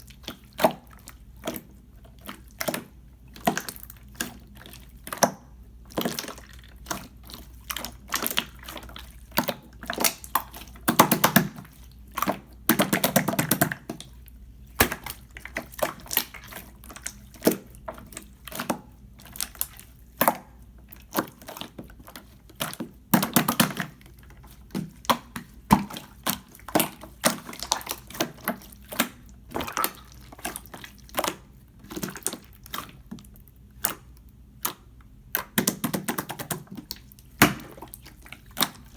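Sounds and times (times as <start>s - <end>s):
slime squishing and popping: 0.1s - 38.9s.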